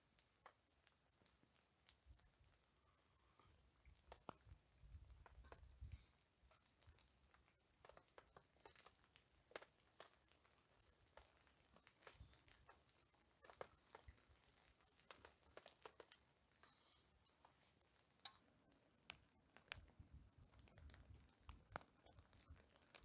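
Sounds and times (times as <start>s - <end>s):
faint steady high hiss: 0.0s - 23.0s
small clicks and rustles: 0.0s - 23.0s.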